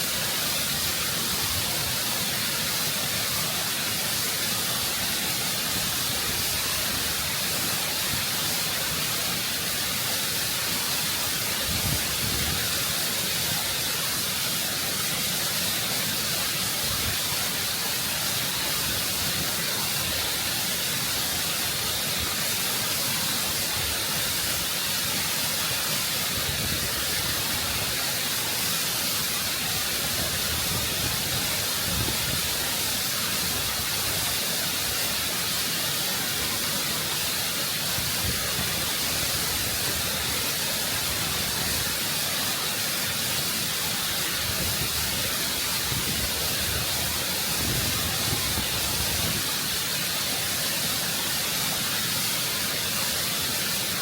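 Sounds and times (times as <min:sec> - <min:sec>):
waterfall rushing over rock: 0:00.0 - 0:54.0.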